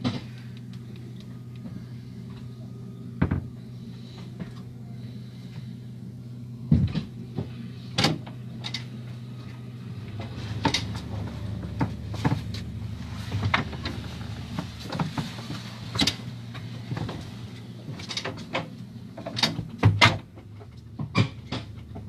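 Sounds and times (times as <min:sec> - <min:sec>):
train interior hum: 0:00.0 - 0:22.0.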